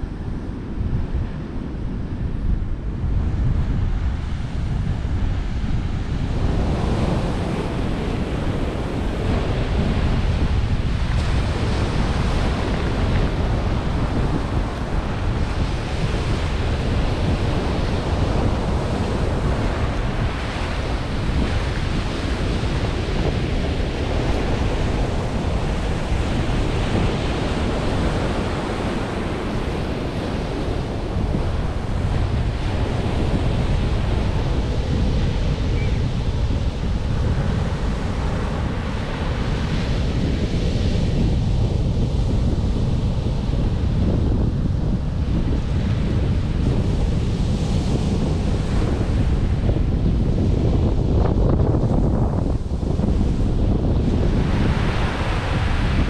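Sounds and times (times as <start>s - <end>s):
wind buffeting microphone: 0.0s - 56.0s
surf washing onto beach: 3.1s - 56.0s.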